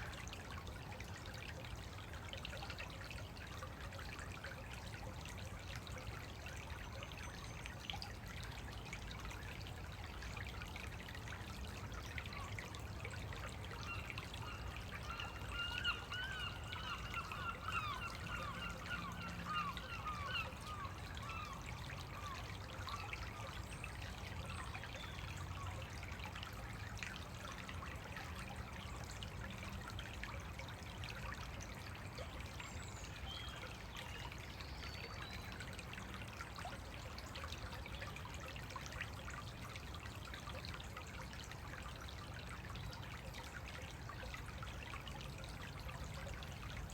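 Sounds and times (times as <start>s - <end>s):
stream trickling over stones: 0.0s - 46.9s.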